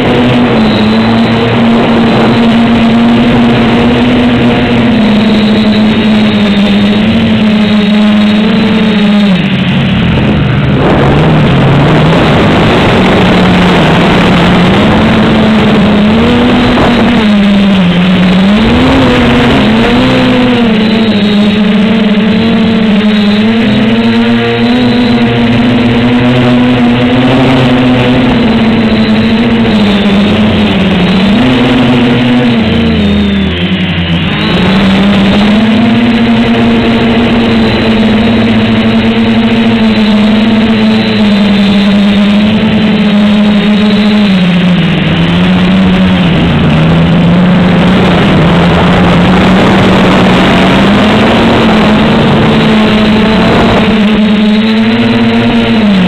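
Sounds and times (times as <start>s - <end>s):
drone motors and propellers whirring: 0.0s - 56.0s.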